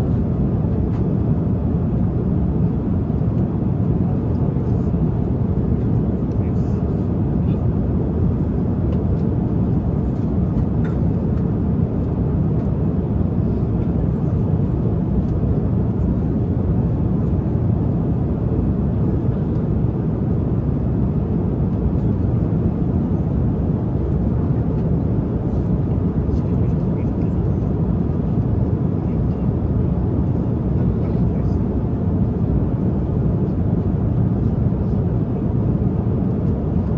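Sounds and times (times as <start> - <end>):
jet airliner cabin rumble: 0.0 - 36.9.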